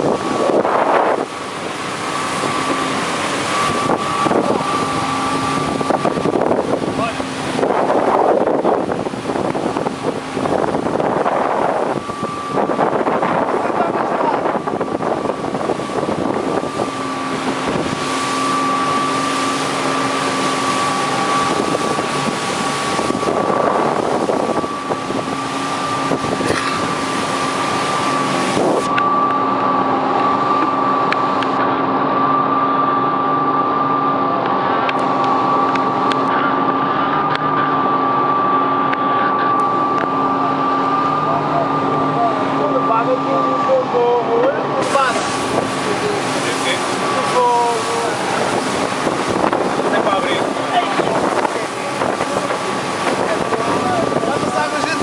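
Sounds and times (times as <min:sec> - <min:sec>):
high whine: 0:00.0 - 0:55.0
motorboat engine running: 0:00.0 - 0:55.0
wind on microphone: 0:00.0 - 0:55.0.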